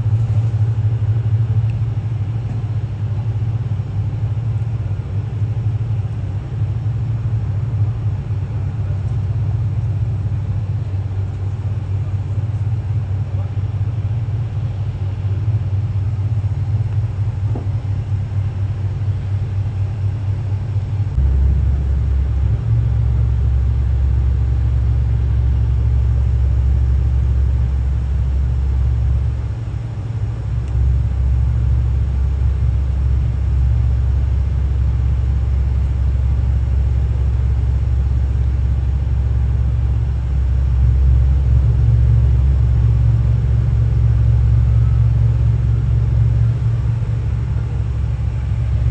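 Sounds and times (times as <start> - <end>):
boat engines rumbling: 0.0 - 48.9.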